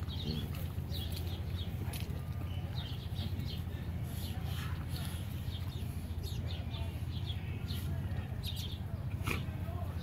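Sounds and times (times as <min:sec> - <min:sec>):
small birds chirping: 0:00.0 - 0:10.0
steady low rumble: 0:00.0 - 0:10.0.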